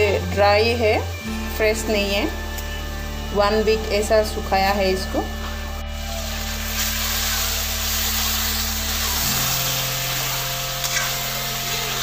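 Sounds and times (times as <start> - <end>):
chicken sizzling in oil: 0.0 - 12.0
low steady hum: 0.0 - 12.0.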